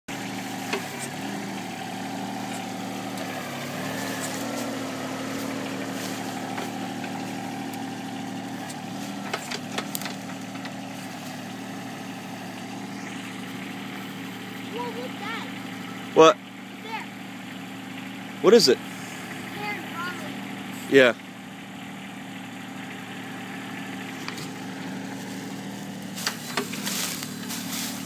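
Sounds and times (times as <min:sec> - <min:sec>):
backhoe engine running: 0:00.0 - 0:28.0.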